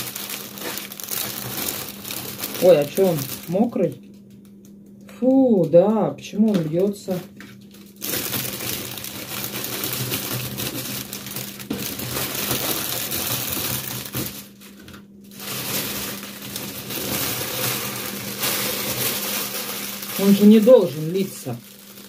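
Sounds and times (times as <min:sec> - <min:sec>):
plastic crinkling: 0:00.0 - 0:04.6, 0:06.4 - 0:22.0.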